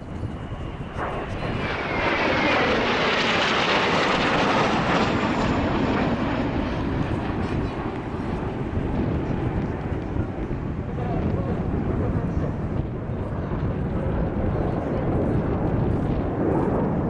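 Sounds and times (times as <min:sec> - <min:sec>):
jet engine roar passing overhead: 0:00.0 - 0:17.0.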